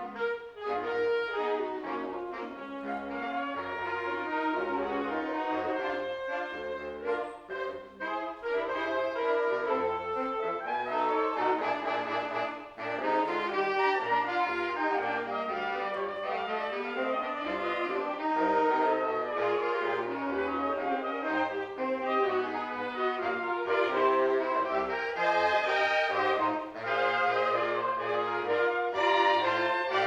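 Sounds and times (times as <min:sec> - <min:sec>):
brass ensemble music: 0:00.0 - 0:30.0.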